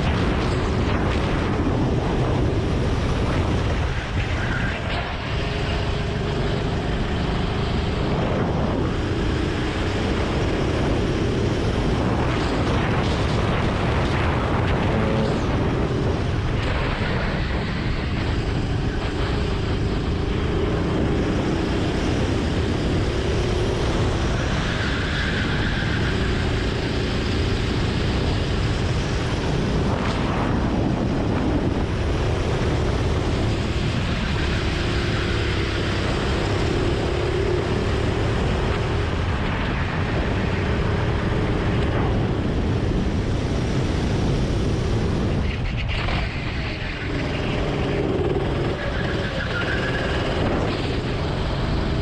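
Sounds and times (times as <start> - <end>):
go-kart engine racing: 0.0 - 52.0.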